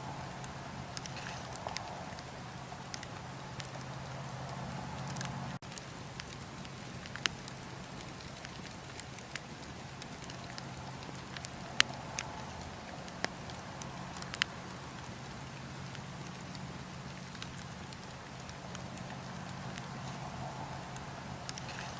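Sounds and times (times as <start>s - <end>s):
bonfire crackling and popping: 0.0s - 21.9s.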